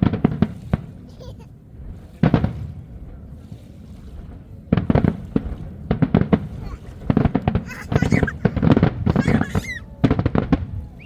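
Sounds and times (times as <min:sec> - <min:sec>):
fireworks bursting: 0:00.0 - 0:03.2, 0:04.1 - 0:11.0.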